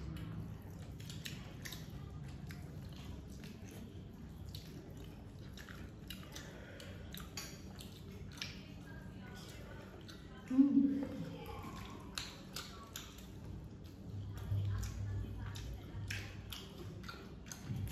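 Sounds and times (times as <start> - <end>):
chewing: 0.0 - 17.9
fingers mixing food on plates: 0.0 - 17.9.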